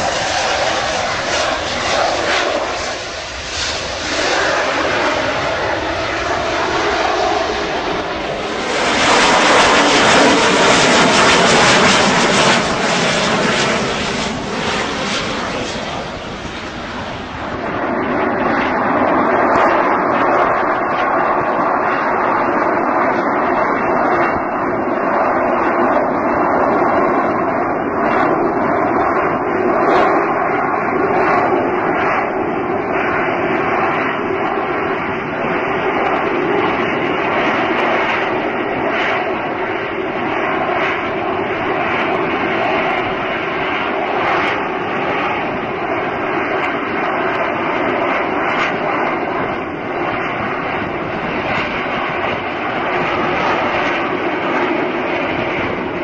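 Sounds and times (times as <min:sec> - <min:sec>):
military jet taking off: 0:00.0 - 0:56.0.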